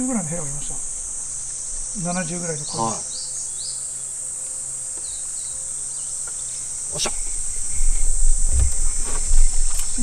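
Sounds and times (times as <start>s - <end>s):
insects shrilling: 0.0s - 10.0s.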